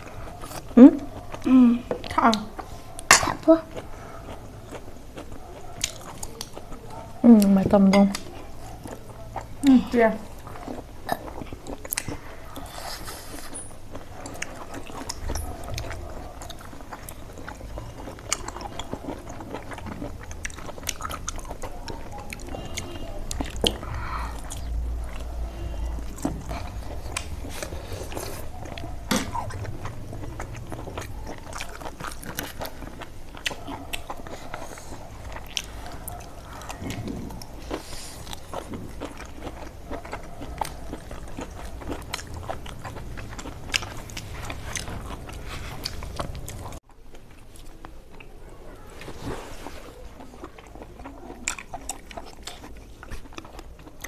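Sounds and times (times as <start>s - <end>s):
low background hum: 0.0s - 54.0s
person chewing with crunches: 0.0s - 54.0s.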